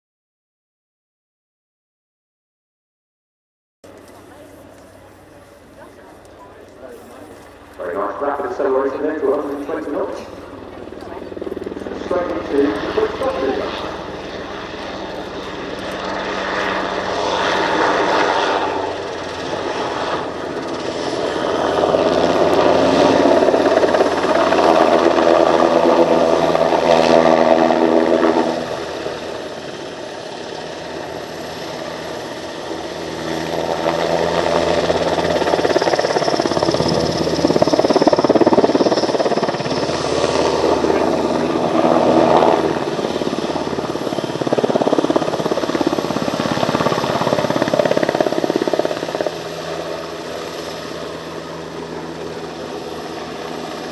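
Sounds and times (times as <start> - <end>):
helicopter rotor beating: 3.9 - 53.9
turbines whining: 3.9 - 53.9.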